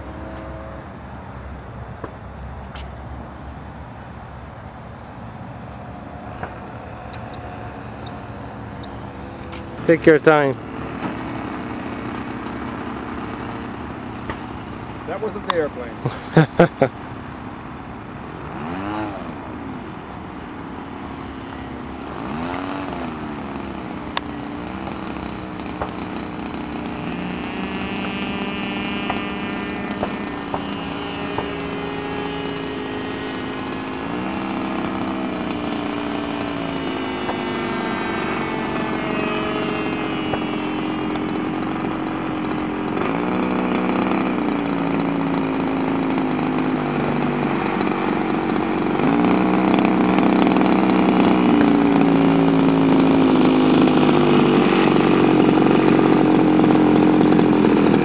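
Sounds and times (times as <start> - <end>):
model airplane engine revving: 0.0 - 1.8, 5.6 - 58.0.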